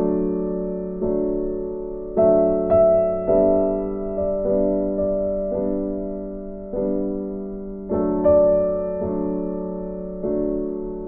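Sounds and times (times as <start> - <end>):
slow gentle piano music: 0.0 - 11.0.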